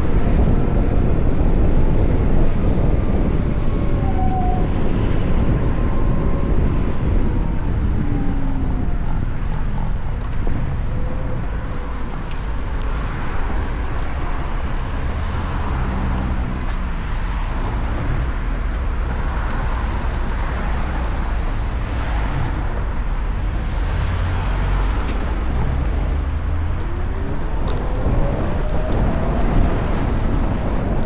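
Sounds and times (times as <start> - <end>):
road noise: 0.0 - 31.0
surrounding car traffic: 0.0 - 31.0
wind rush: 0.0 - 31.0.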